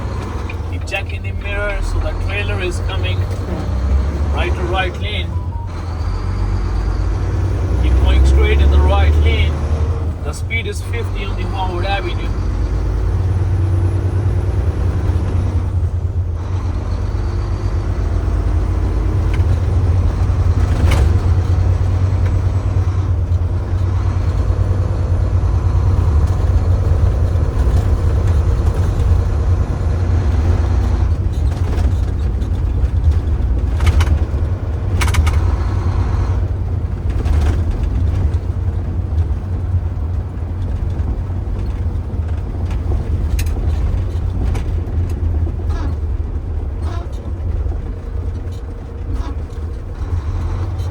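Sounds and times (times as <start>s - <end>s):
truck engine and road noise: 0.0s - 50.9s.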